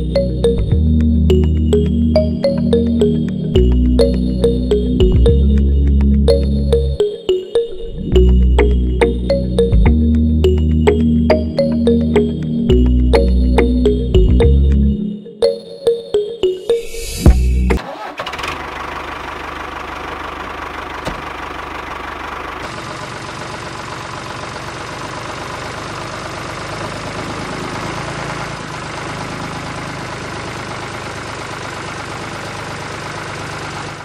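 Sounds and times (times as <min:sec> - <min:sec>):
tractor engine running: 0:00.0 - 0:15.0, 0:17.3 - 0:34.0.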